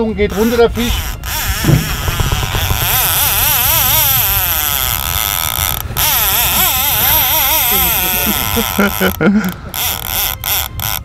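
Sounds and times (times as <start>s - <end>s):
fishing reel drag buzzing: 0.0s - 11.0s.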